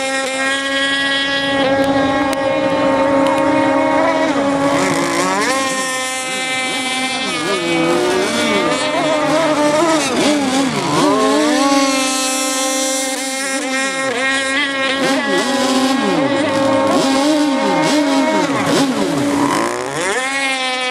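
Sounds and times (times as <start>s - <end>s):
speedboat engine pitch swooping: 0.0s - 20.9s
speedboat engine steady high pitch: 0.0s - 20.9s.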